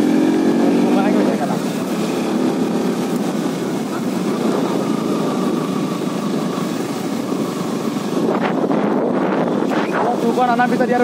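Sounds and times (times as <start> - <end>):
motorcycle engine running: 0.0 - 11.0
steady rushing noise: 0.0 - 11.0.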